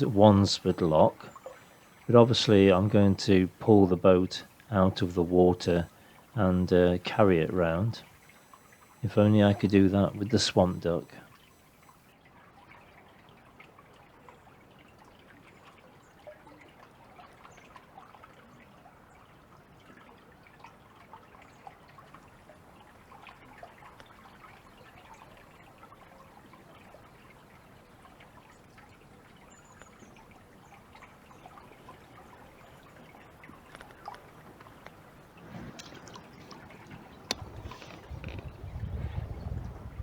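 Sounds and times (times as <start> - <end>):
river water trickling: 0.0 - 40.0.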